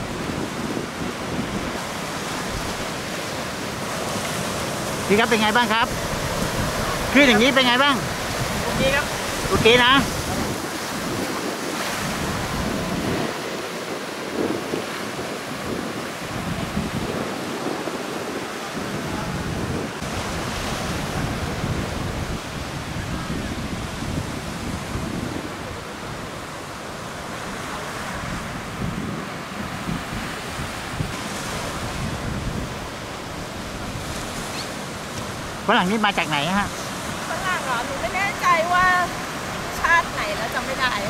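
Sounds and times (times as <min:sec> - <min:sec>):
heavy surf breaking: 0:00.0 - 0:41.0
wind gusting on microphone: 0:00.0 - 0:41.0.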